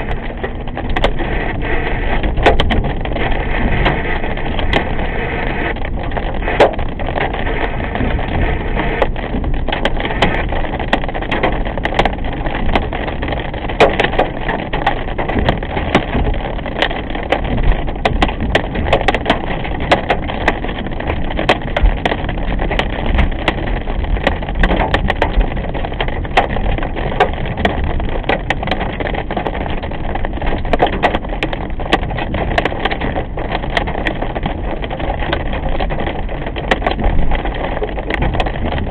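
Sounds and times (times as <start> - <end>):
rain hitting car windshield: 0.0 - 38.9
tyre and road noise: 0.0 - 38.9.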